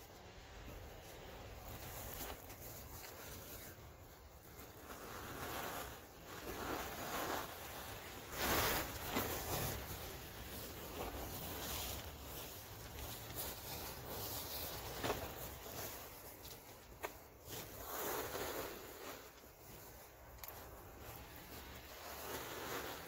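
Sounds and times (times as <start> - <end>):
hands brushing through powder: 1.1 - 23.0.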